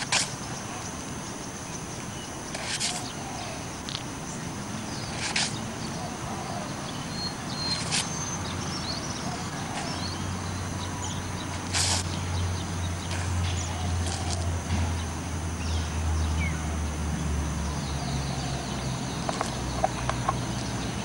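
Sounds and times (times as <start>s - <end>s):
microphone hiss with high whine: 0.0s - 21.0s
small birds chirping: 0.0s - 21.0s.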